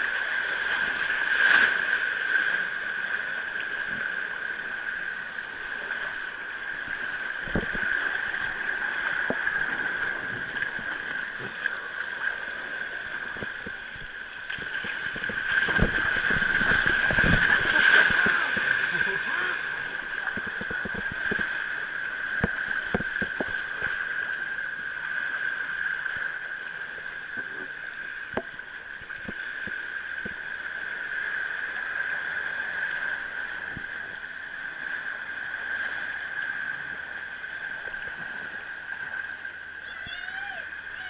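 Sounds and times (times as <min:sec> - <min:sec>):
water rushing and splashing: 0:00.0 - 0:41.0.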